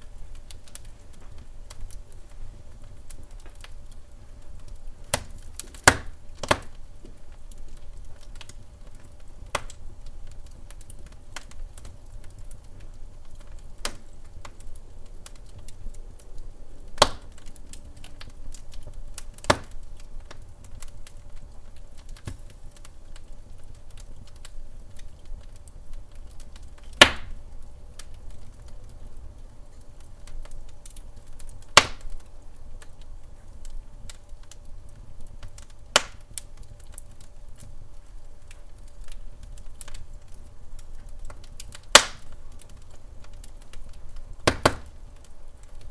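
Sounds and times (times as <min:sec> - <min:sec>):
low fire rumble: 0:00.0 - 0:45.9
wood fire crackling: 0:00.0 - 0:45.9.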